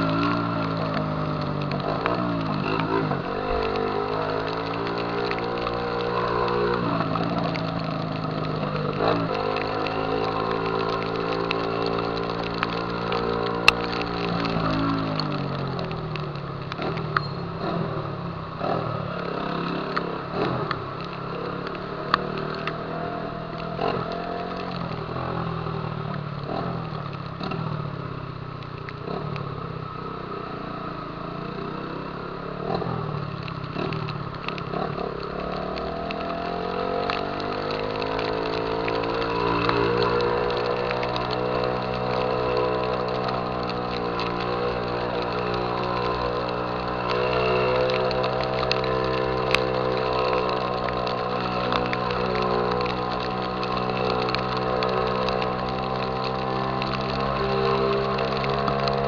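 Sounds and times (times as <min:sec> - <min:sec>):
exhaust pops and clicks: 0:00.0 - 0:29.6, 0:32.6 - 0:59.0
motorcycle engine revving: 0:00.0 - 0:59.0.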